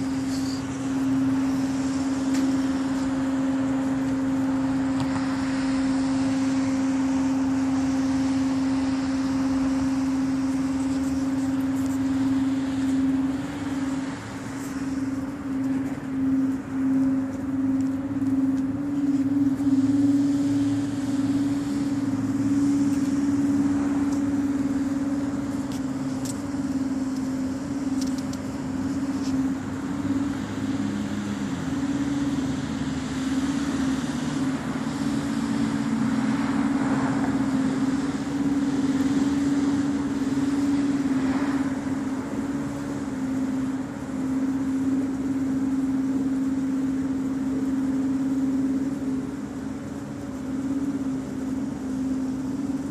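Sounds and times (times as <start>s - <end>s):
low humming drone: 0.0s - 52.9s.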